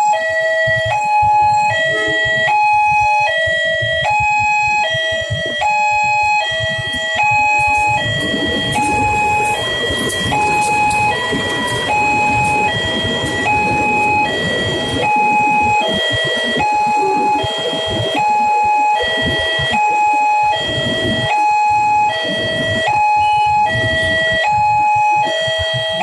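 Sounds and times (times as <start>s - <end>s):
two-tone crossing alarm: 0.0s - 26.0s
heavy rumble: 0.6s - 26.0s.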